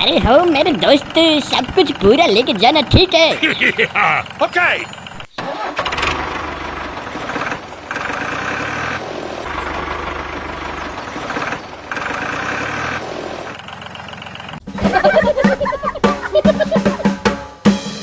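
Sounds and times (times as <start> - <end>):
engine running steadily: 0.0 - 17.2.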